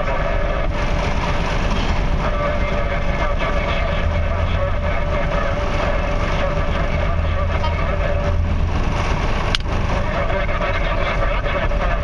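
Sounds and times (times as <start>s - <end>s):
constant machine whine: 0.0s - 12.0s
diesel engine drone: 0.0s - 12.0s.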